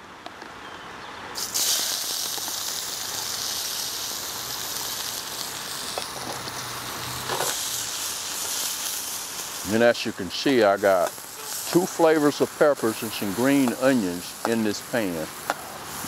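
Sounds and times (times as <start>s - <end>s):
vegetables sizzling in oil: 1.4s - 16.0s.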